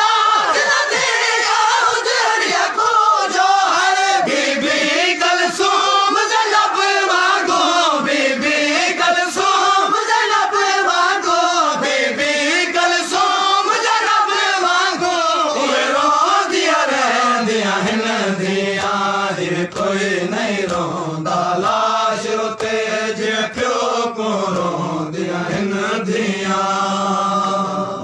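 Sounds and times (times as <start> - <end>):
men chanting in unison: 0.0 - 28.0.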